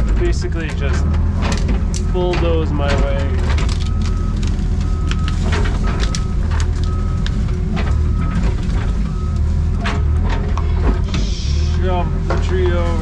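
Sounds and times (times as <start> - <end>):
excavator engine running: 0.0 - 13.0
branches cracking and snapping: 0.2 - 11.1.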